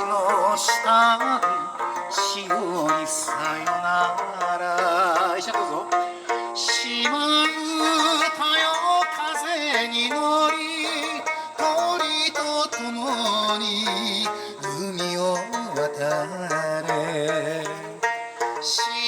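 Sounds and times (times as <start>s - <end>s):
folk-pop song with plucked strings: 0.0s - 19.0s.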